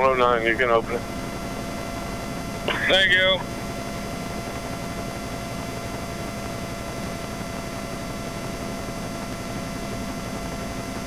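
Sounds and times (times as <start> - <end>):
helicopter cabin noise: 0.0 - 11.0.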